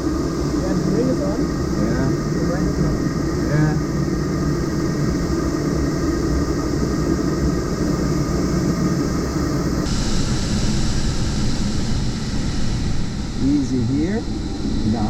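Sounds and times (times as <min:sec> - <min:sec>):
rushing airflow in glider cockpit: 0:00.0 - 0:15.0.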